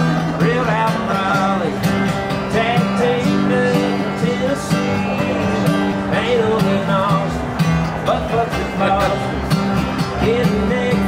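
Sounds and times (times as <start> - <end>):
acoustic guitar strumming: 0.0 - 11.0
man singing: 0.0 - 11.0.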